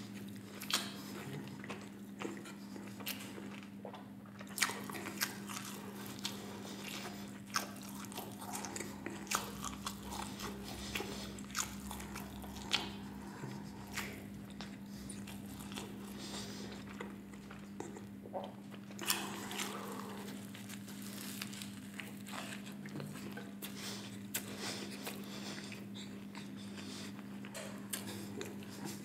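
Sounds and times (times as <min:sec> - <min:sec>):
crunchy chewing: 0:00.0 - 0:29.0.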